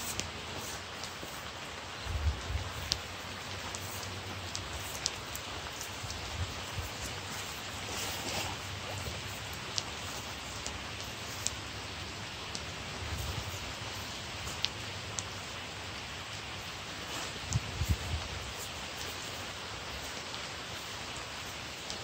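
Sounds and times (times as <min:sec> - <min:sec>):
sharp drips ticking: 0:00.0 - 0:22.0
steady rain falling: 0:00.0 - 0:22.0.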